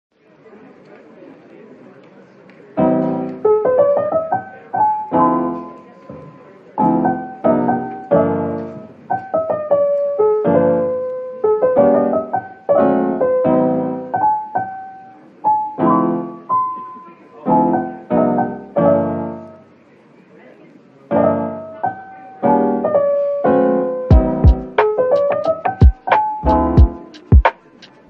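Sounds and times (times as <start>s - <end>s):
piano notes and chords: 2.8s - 19.7s, 21.0s - 27.9s.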